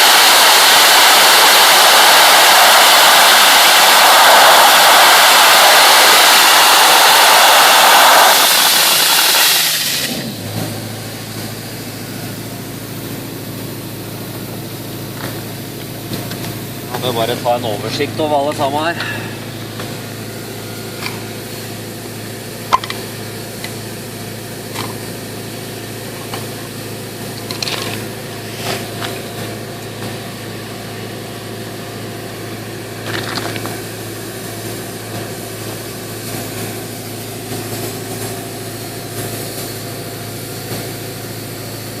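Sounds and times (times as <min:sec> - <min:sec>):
machine humming: 0:00.0 - 0:39.7.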